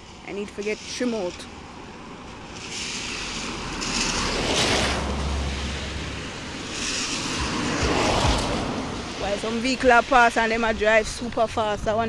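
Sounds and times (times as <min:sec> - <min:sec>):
rushing floodwater roar: 0:00.0 - 0:12.0
vehicle passing rumble: 0:00.0 - 0:12.0
wind buffeting microphone: 0:00.0 - 0:12.0.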